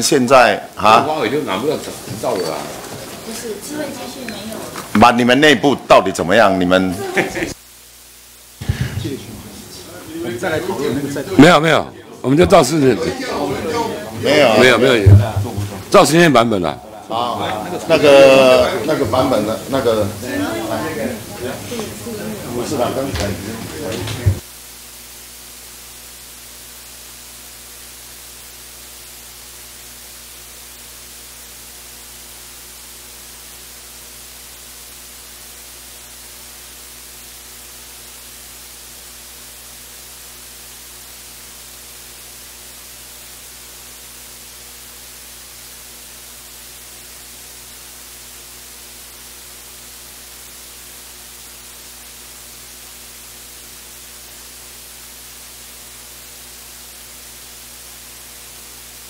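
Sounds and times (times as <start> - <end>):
electronic hiss: 0.0 - 59.0
low mains hum: 0.0 - 59.0.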